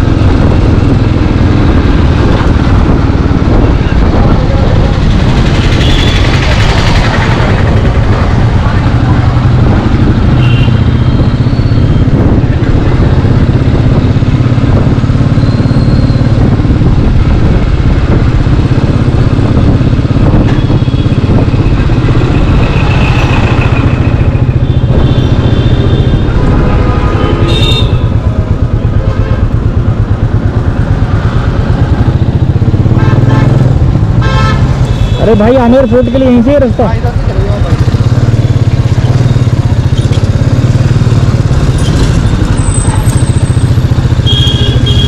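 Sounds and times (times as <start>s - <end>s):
motorcycle engine pulsing: 0.0s - 45.0s.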